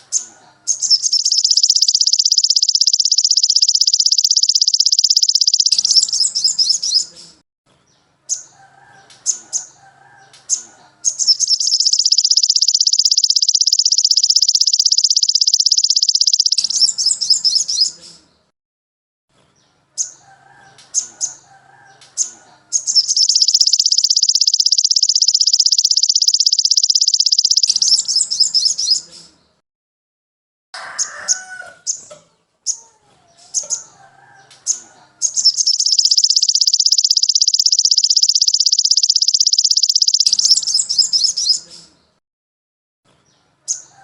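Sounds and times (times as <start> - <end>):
songbird chirps and trills: 0.0 - 18.5, 19.4 - 29.6, 30.9 - 42.2, 43.1 - 44.0.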